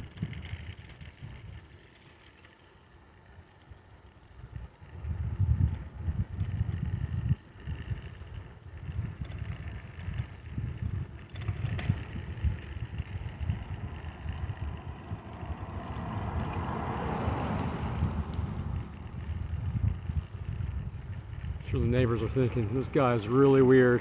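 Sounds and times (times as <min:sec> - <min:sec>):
wind buffeting microphone: 0:00.0 - 0:02.0, 0:04.2 - 0:24.0.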